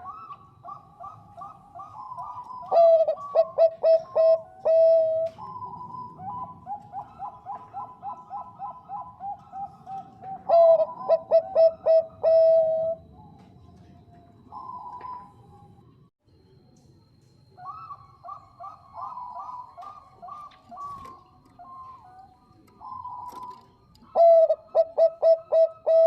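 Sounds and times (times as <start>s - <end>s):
dove cooing: 0.0s - 15.8s, 17.6s - 26.0s.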